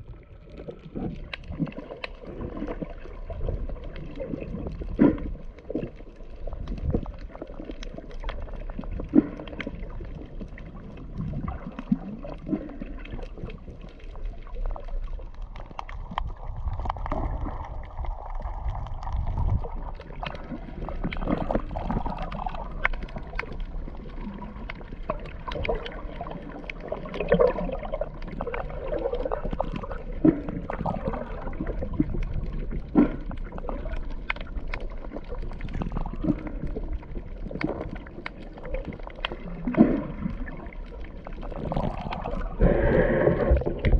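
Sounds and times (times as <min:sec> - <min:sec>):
muffled underwater sloshing: 0:00.0 - 0:43.9.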